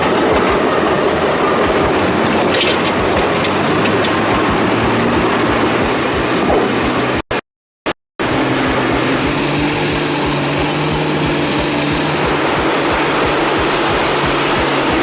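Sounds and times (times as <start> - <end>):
large machine engine throbbing: 0.0 - 7.2, 8.2 - 15.0.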